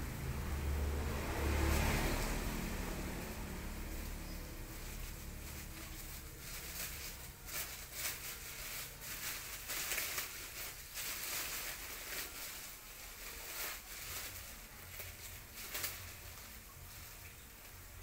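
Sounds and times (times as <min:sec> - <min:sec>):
plastic bag rustling: 0:00.2 - 0:18.0.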